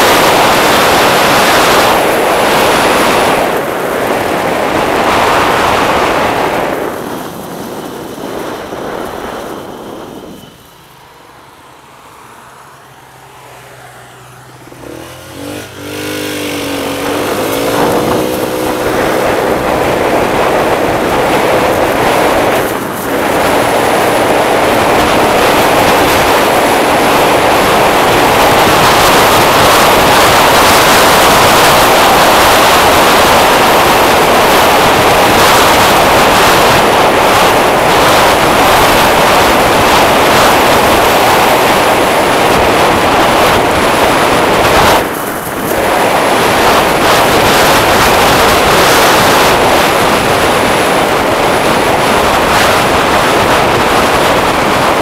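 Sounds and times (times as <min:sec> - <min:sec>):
scooter engine idling and revving: 0:00.0 - 0:55.0
wind rushing over microphone: 0:00.0 - 0:55.0.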